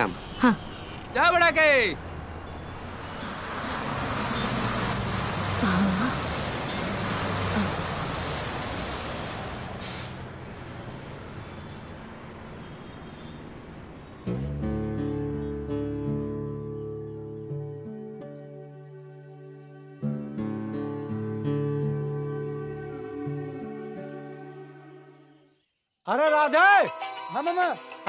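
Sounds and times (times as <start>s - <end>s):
bus engine and road noise: 0.0s - 25.2s.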